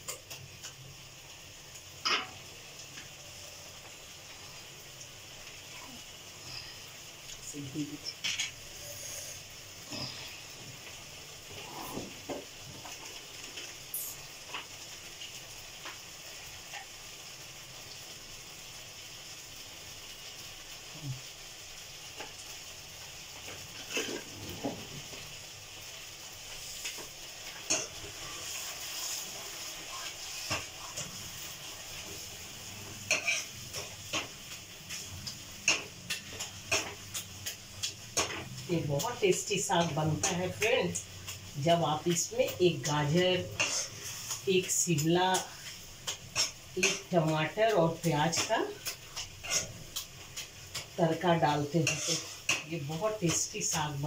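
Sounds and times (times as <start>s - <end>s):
greens sizzling in pan: 0.0s - 54.0s.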